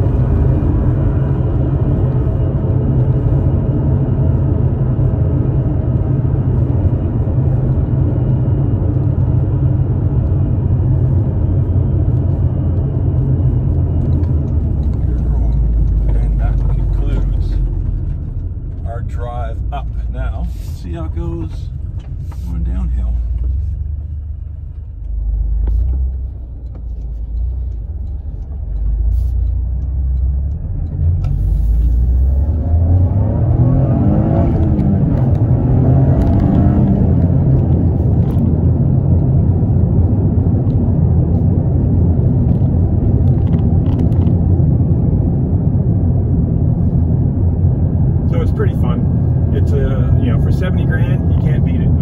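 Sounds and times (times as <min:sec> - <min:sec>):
car engine drone in cabin: 0:00.0 - 0:52.0
tyres on the road: 0:00.0 - 0:52.0.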